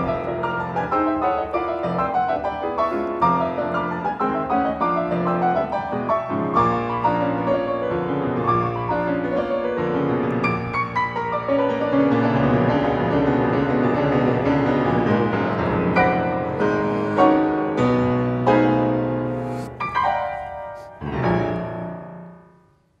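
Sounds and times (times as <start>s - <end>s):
solo piano chords: 0.0s - 22.9s.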